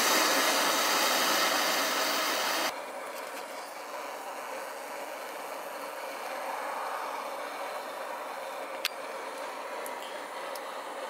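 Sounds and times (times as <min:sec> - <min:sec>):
faint steady hiss: 0:00.0 - 0:11.0
gas burner hissing: 0:00.0 - 0:11.0.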